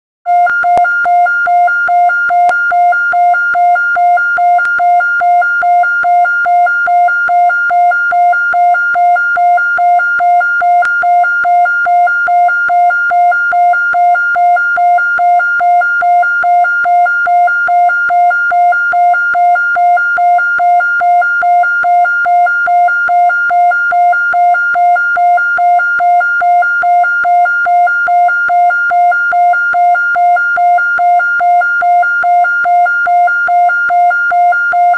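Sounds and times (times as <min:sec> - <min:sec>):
pulsing siren: 0:00.3 - 0:34.9.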